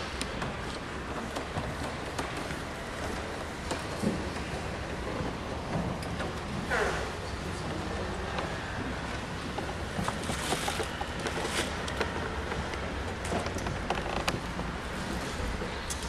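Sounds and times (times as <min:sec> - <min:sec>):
people shuffling up wooden steps: 0:00.0 - 0:16.0.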